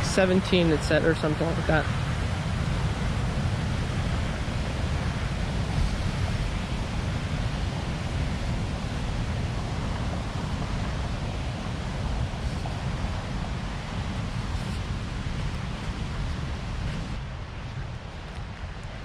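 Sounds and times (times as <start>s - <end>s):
water rushing through dam: 0.0s - 19.0s.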